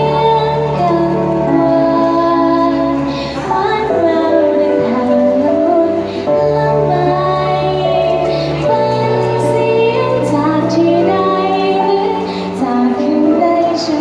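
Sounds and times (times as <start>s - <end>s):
backing music: 0.0s - 14.0s
woman singing: 0.0s - 14.0s.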